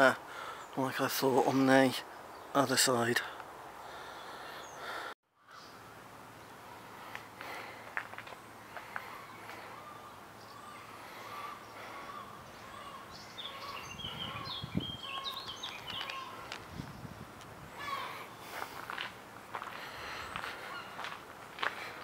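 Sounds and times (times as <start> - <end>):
high chirping birdsong: 0.0 - 18.7, 19.8 - 21.1
birds calling: 0.0 - 22.0.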